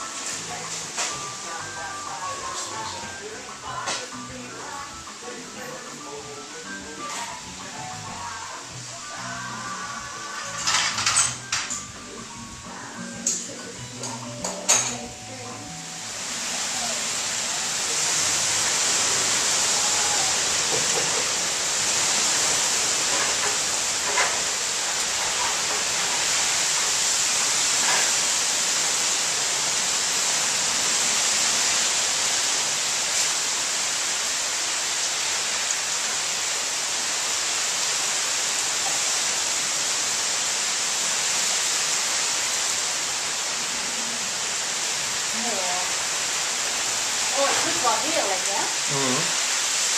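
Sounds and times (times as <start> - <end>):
heavy rain on leaves: 0.0 - 13.3, 15.3 - 49.9.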